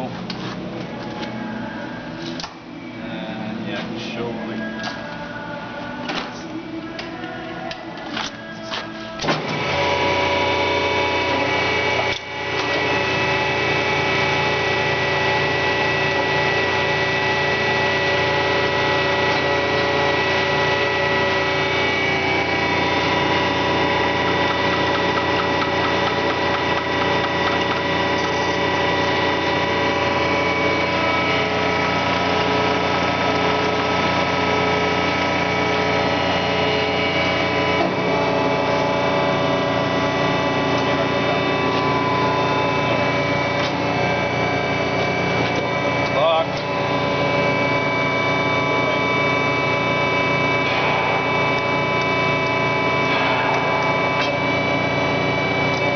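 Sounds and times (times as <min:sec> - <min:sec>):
band saw hum and whine: 0:00.0 - 0:55.9.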